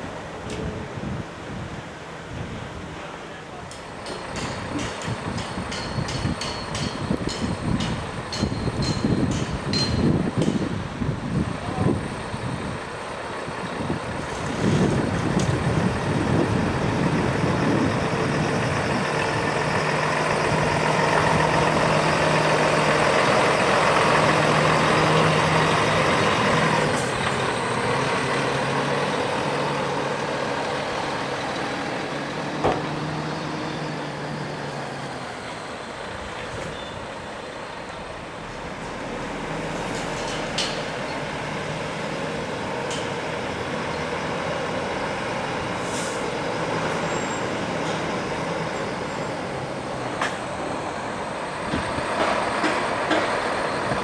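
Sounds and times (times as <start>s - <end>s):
road noise: 0.0s - 54.0s
diesel truck driving past: 9.5s - 54.0s.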